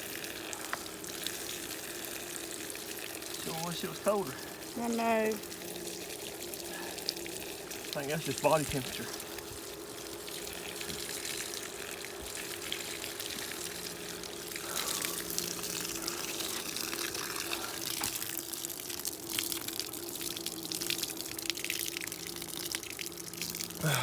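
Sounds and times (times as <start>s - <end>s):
water running: 0.0s - 24.0s.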